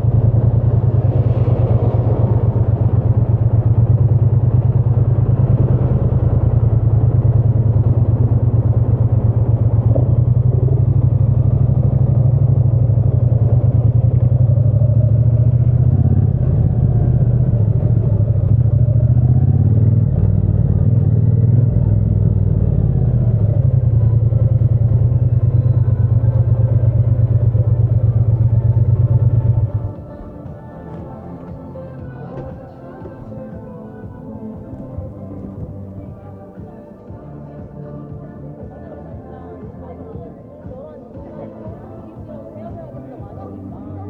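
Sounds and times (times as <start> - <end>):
motorcycle engine throbbing: 0.0 - 44.0.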